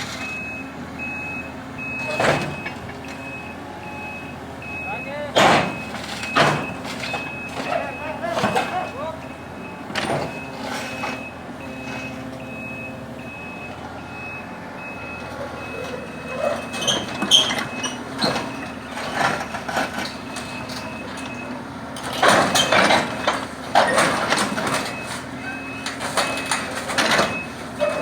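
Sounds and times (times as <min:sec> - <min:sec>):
diesel engine running: 0:00.0 - 0:28.0
reversing alarm beeping: 0:00.1 - 0:28.0.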